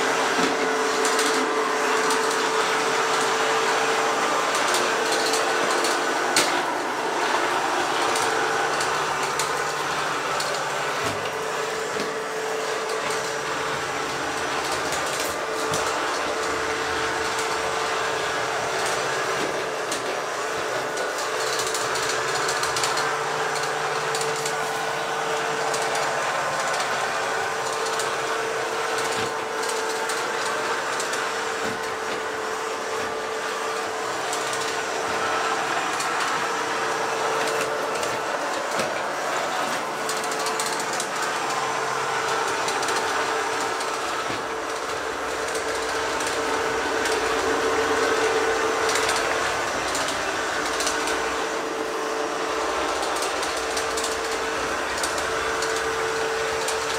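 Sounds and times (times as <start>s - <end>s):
brushes and wheels rattling: 0.0s - 56.9s
robot vacuum cleaner running: 0.0s - 56.9s.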